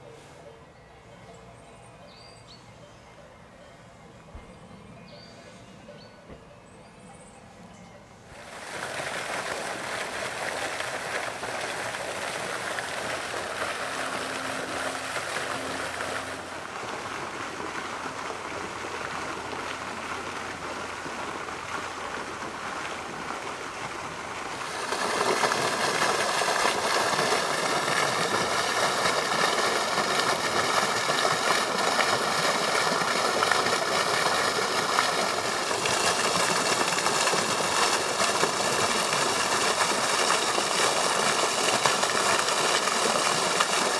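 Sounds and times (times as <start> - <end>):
fountain spray splashing: 8.3 - 43.9.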